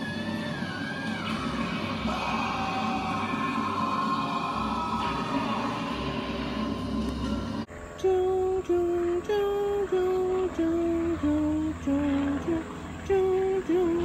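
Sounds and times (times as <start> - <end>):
faint low hum: 0.0 - 14.0
slow hummed melody: 0.0 - 14.0.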